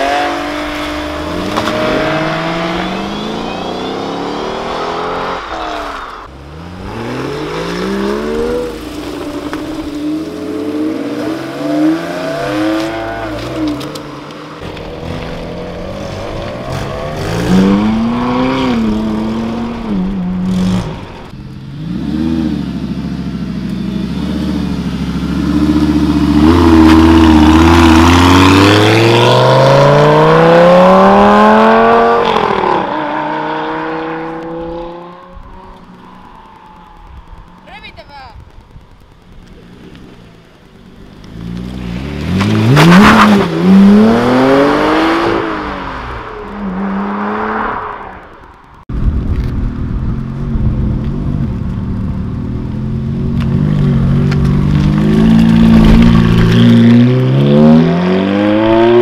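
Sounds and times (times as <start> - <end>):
sports car engines accelerating: 0.0 - 37.8, 38.4 - 59.0.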